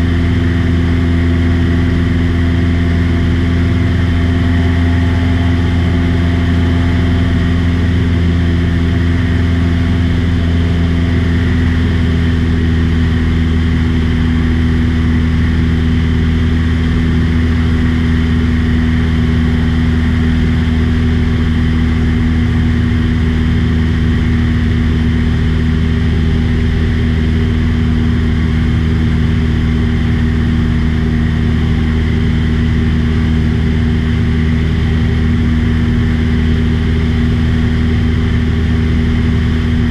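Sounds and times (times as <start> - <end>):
aircraft propeller engine drone: 0.0 - 39.9.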